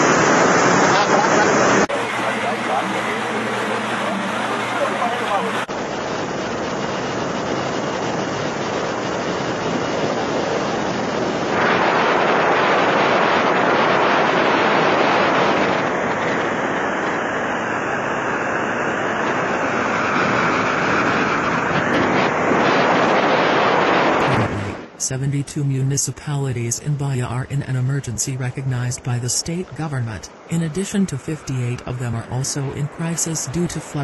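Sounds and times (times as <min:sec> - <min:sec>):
wind and aircraft roar: 0:00.0 - 0:34.0.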